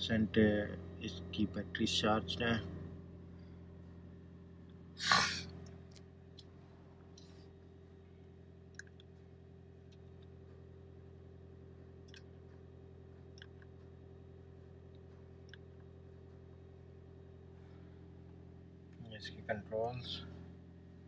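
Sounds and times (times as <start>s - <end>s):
faint low cabin hum: 0.0s - 21.0s.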